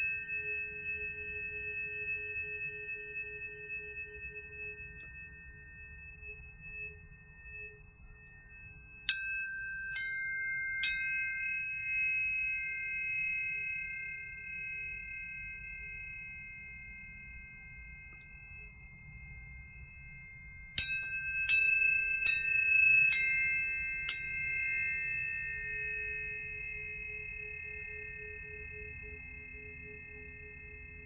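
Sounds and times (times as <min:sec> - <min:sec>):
tuning forks ringing tones: 0:00.0 - 0:31.0
tuning forks struck: 0:00.0 - 0:31.0.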